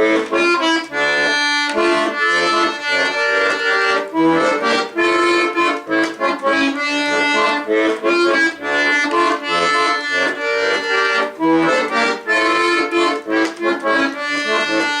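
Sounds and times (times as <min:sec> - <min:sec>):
accordion bass notes: 0:00.0 - 0:15.0
accordion melody over chords: 0:00.0 - 0:15.0.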